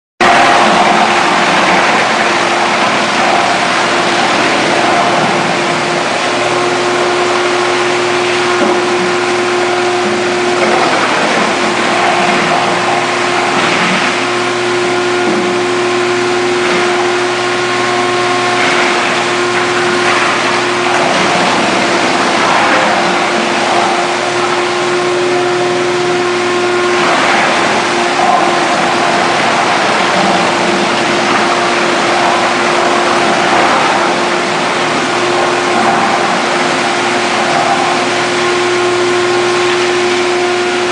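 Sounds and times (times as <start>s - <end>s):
wood chipper whining: 0.2s - 40.9s.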